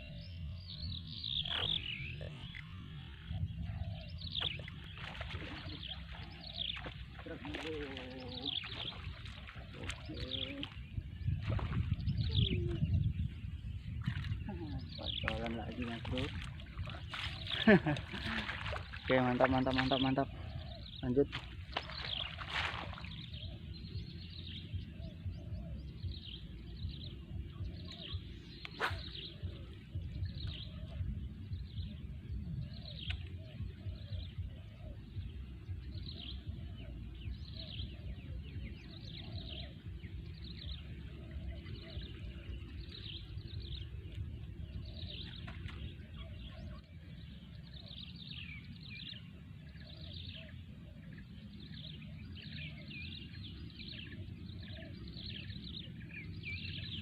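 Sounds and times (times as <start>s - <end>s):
birds chirping: 0.0s - 57.0s
steady low rumble: 0.0s - 57.0s.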